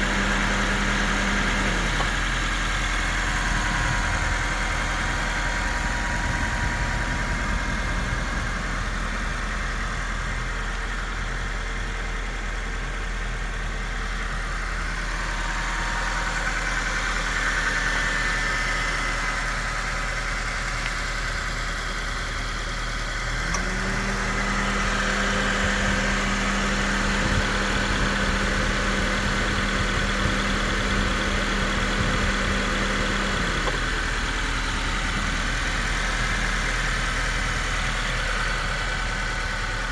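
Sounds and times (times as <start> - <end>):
steady hum: 0.0 - 22.4, 23.0 - 36.3
car engine idling: 0.0 - 39.9.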